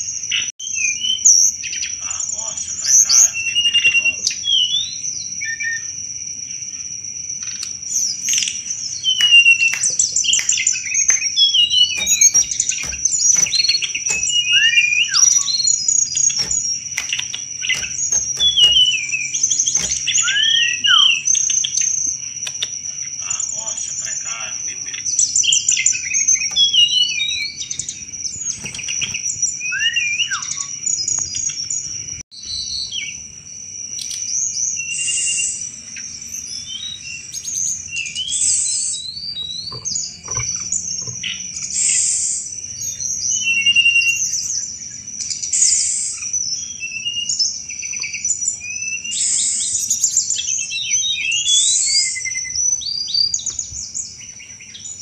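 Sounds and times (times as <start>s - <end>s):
songbird chirping and trilling: 0.0s - 55.0s.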